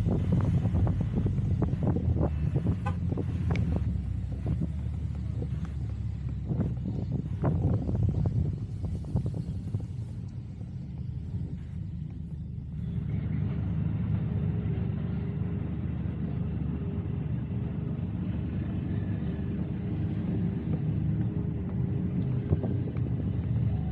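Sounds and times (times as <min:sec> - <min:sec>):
car engine and tyres rumbling: 0:00.0 - 0:23.9.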